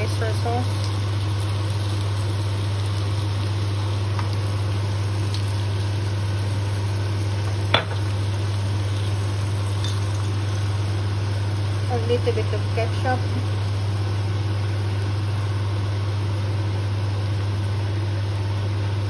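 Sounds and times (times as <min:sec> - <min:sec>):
steady low hum: 0:00.0 - 0:19.0
vegetables sizzling in a wok: 0:00.0 - 0:19.0.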